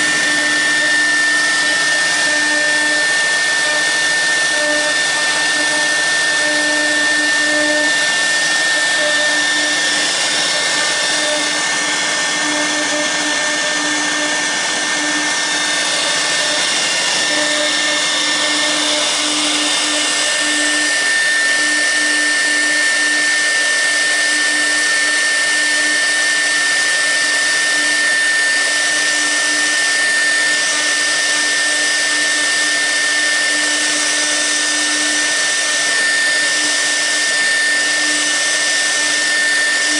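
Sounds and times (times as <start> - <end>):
bit cutting into workpiece: 0.0 - 39.9
router spindle whining: 0.0 - 39.9.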